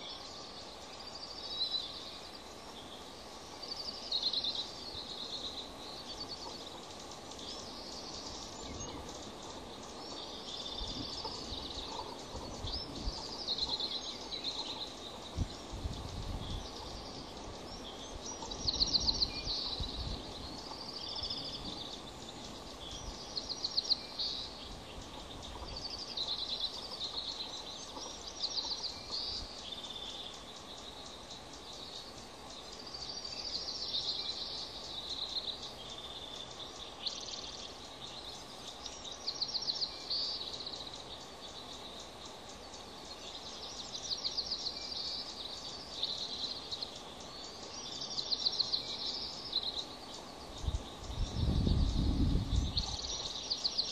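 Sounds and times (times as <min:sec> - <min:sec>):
low background hiss: 0:00.0 - 0:53.9.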